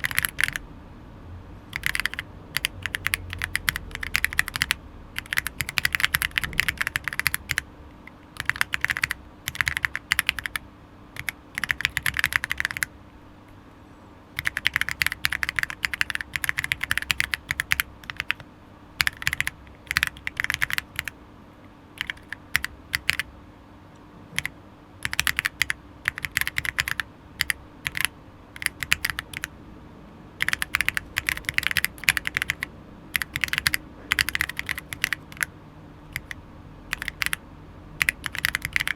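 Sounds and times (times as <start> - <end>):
mechanical keyboard typing: 0.0 - 0.6, 1.7 - 10.6, 11.2 - 12.9, 14.4 - 18.4, 19.0 - 21.2, 22.0 - 23.3, 24.3 - 29.5, 30.4 - 35.5, 36.1 - 37.4, 38.0 - 38.9
faint steady hum: 0.0 - 38.9.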